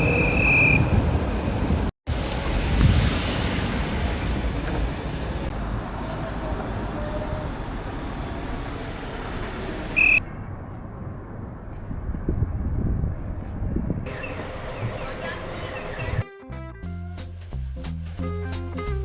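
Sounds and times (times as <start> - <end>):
rumble of passing vehicles: 0.0 - 16.2.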